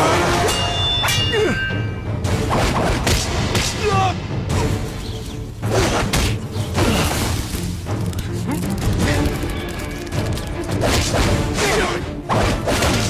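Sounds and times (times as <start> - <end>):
dramatic film soundtrack music: 0.0 - 13.0.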